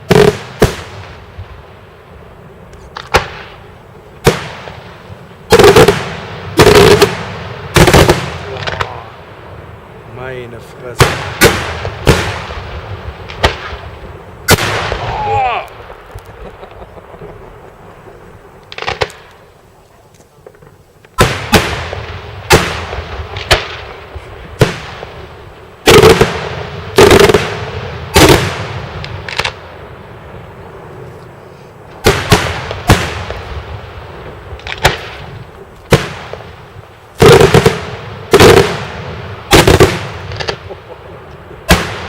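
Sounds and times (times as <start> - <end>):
fireworks bangs echoing: 0.0 - 19.5, 20.4 - 42.0.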